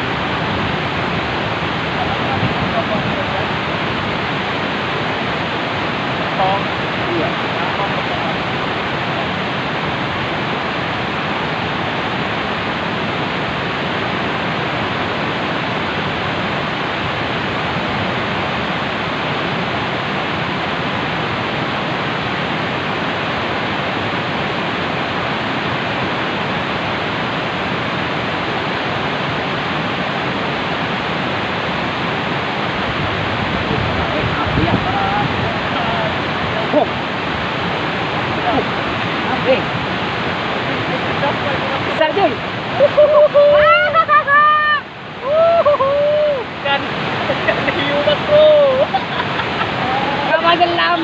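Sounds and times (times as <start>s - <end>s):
river rushing: 0.0s - 51.0s.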